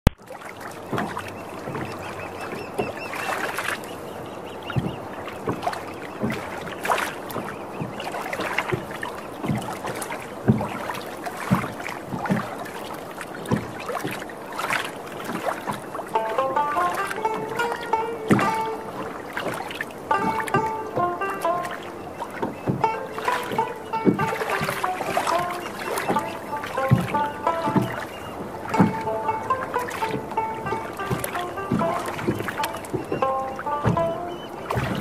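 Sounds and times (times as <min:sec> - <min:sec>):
oar knocking against boat: 0:00.0 - 0:35.0
water washing: 0:00.0 - 0:35.0.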